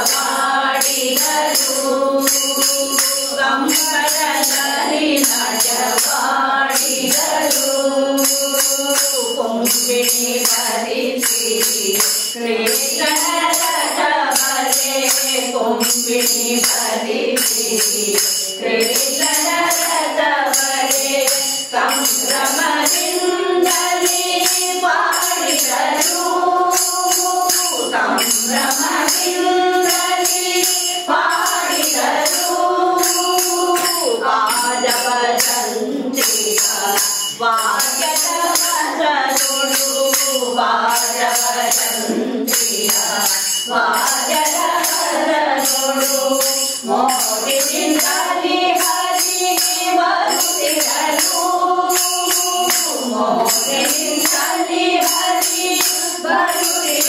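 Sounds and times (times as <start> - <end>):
jingling hand percussion: 0.0 - 57.0
women singing together: 0.0 - 57.0.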